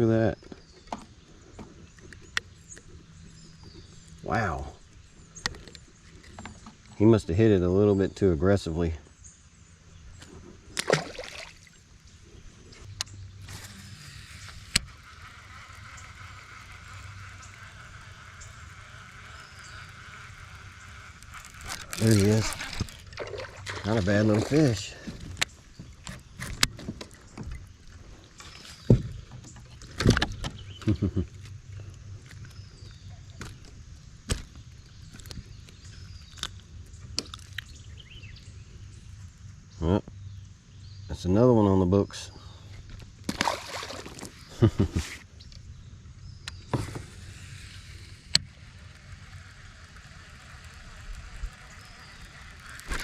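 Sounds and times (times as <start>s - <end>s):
faint outdoor background: 0.0s - 53.0s.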